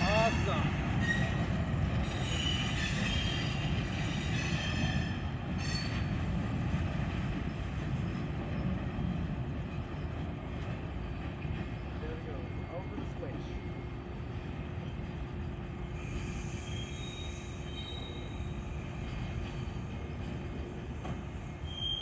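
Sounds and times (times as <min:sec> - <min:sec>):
wheels squealing on rails: 0:00.0 - 0:08.8, 0:11.4 - 0:22.0
railroad cars rumbling: 0:00.0 - 0:22.0.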